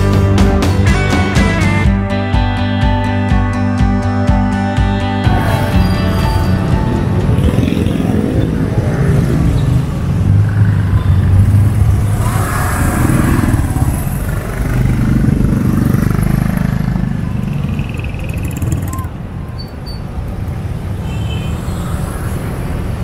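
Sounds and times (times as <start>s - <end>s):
motorcycles passing: 4.3s - 23.0s.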